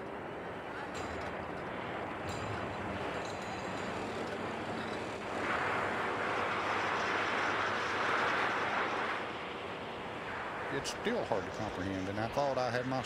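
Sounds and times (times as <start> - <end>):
machinery rumble: 0.0 - 13.0.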